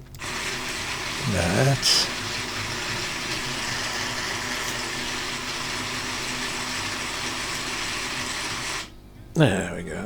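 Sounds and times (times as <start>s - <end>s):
electric motors whirring: 0.2s - 8.9s.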